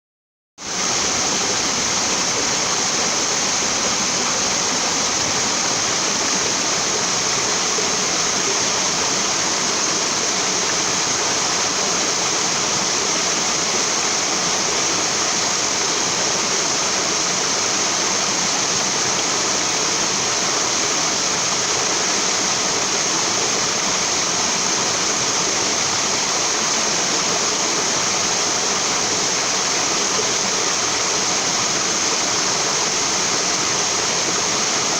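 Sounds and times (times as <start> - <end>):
waterfall pouring and splashing: 0.6 - 34.9.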